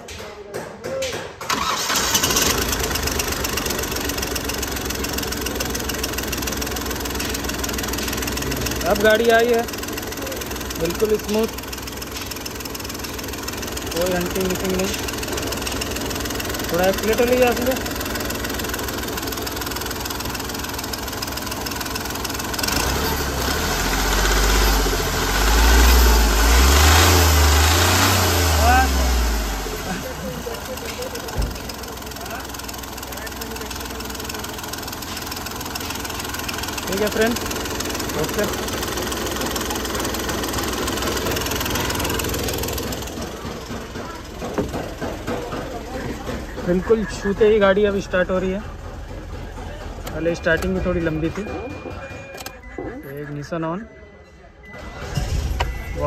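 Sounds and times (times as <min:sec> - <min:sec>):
diesel engine idling: 0:01.5 - 0:53.6.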